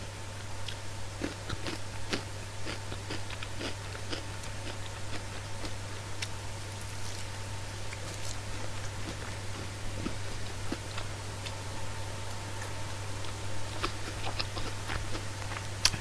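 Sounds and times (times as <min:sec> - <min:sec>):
low hum: 0:00.0 - 0:16.0
crunchy chewing: 0:00.4 - 0:16.0.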